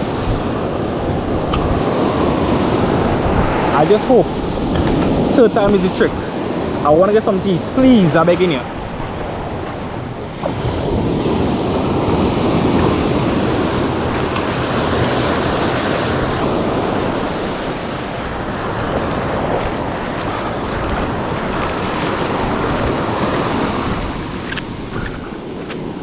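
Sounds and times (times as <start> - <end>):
surf breaking in shallows: 0.0 - 26.0
wind noise on microphone: 0.0 - 26.0.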